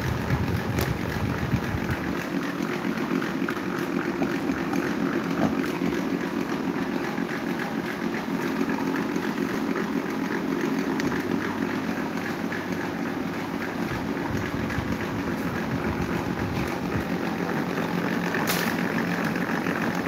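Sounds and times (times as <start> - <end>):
electric fans whirring: 0.0 - 20.0.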